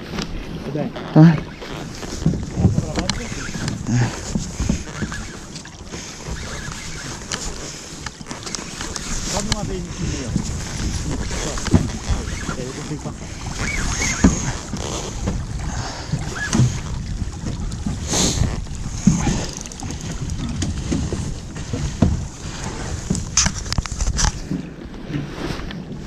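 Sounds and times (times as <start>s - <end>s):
water moving around hull: 0.0s - 26.0s
wind buffeting microphone: 1.8s - 26.0s.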